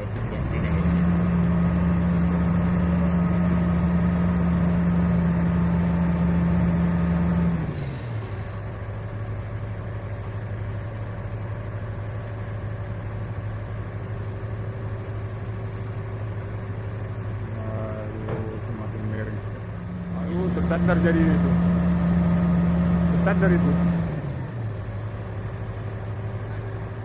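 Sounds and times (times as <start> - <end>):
heavy diesel engine: 0.0 - 27.0.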